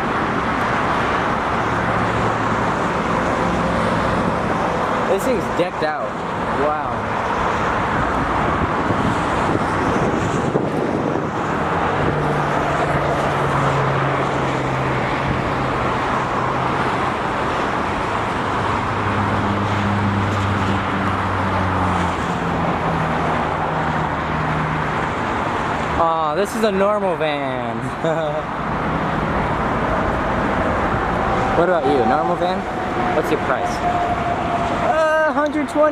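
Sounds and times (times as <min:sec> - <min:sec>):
road traffic noise: 0:00.0 - 0:35.9.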